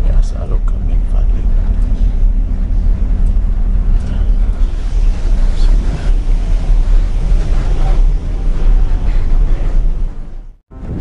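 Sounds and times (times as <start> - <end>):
ship engine noise: 0.0 - 11.0
wind buffeting microphone: 0.0 - 11.0.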